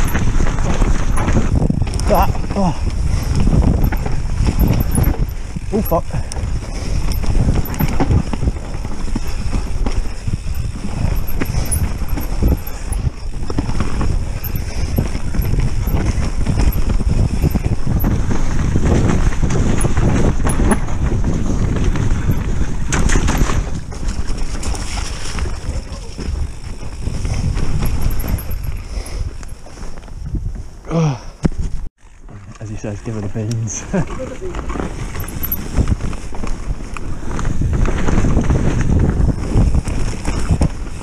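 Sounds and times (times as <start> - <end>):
camera rattling and knocking: 0.0 - 29.6, 34.6 - 38.5
bike tyres rumbling over dirt: 0.0 - 41.0.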